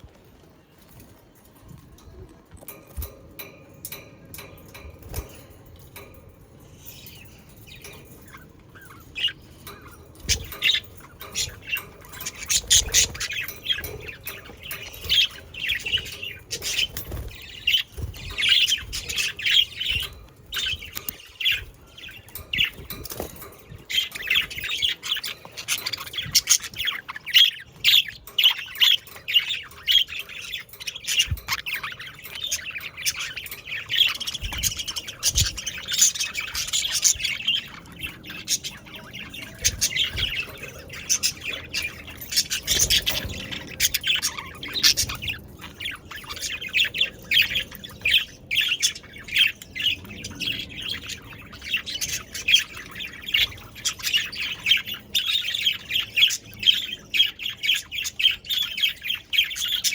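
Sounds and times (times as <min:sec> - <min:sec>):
budgerigars chattering: 0:07.1 - 0:59.9.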